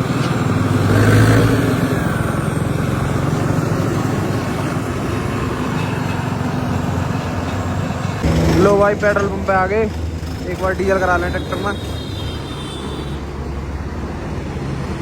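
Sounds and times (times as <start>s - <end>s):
tractor diesel engine running: 0.0s - 14.4s
road rumble: 0.0s - 15.0s.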